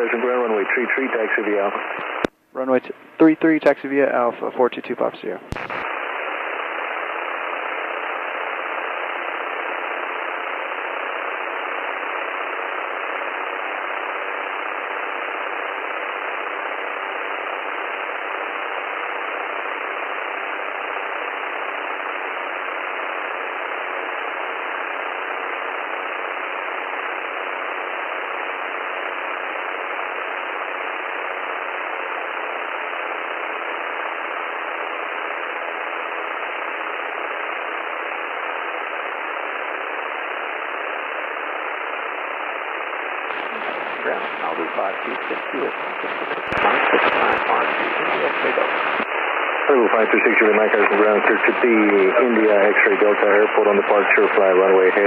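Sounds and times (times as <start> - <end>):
radio intercom hiss: 0.0 - 55.0.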